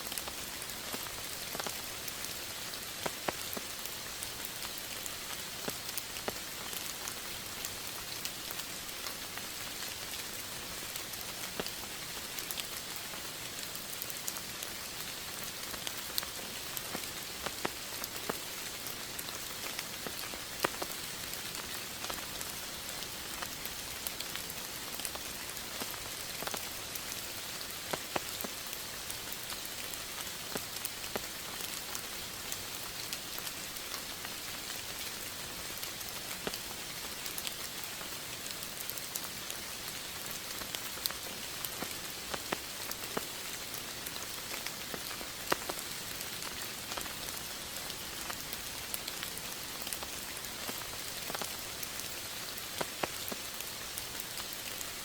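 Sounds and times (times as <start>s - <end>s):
raindrops ticking on surface: 0.0s - 55.0s
steady rain hiss: 0.0s - 55.0s.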